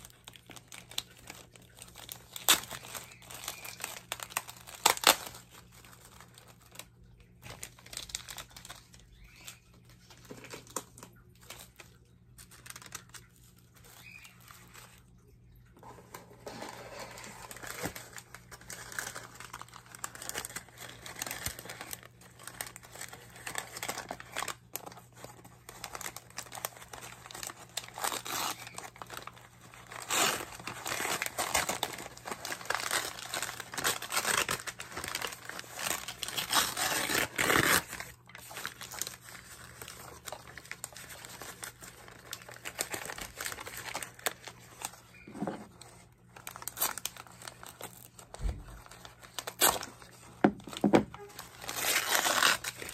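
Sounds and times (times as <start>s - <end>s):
packaging crinkling: 0.0s - 52.9s.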